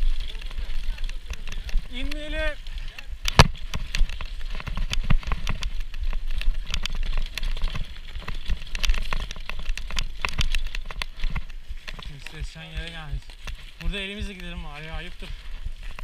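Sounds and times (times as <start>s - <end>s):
wind on microphone: 0.0s - 14.4s
bike rattling over rough ground: 0.0s - 16.0s.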